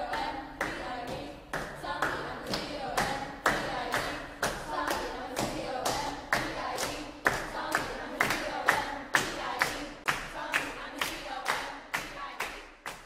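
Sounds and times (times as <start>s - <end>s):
music with clap-like beat: 0.0s - 13.0s.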